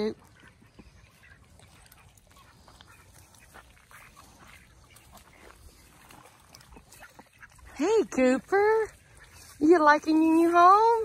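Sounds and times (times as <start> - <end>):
ducks quacking faintly: 0.0 - 11.0.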